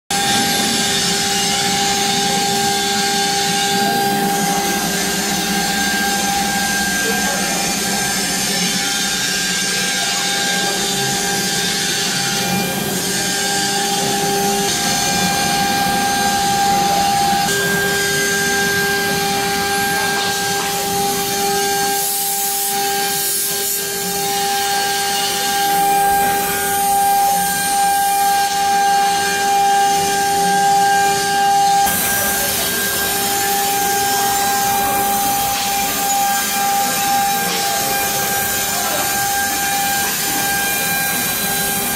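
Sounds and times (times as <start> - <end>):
router spindle high whine: 0.1 - 41.9.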